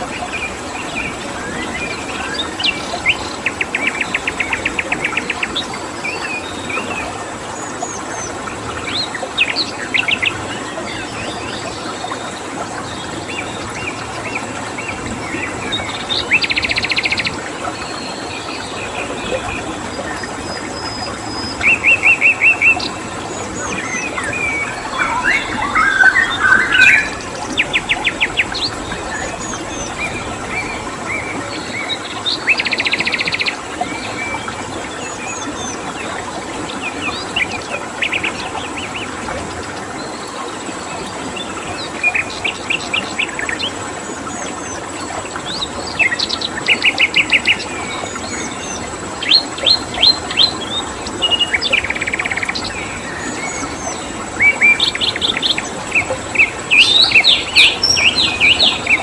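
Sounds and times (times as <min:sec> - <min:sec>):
songbirds chirping and trilling: 0:00.0 - 0:59.0
stream rushing: 0:00.0 - 0:59.0.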